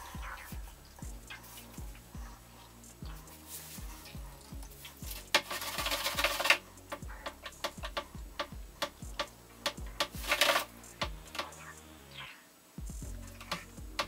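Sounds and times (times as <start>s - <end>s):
clock ticking: 0.1s - 11.8s.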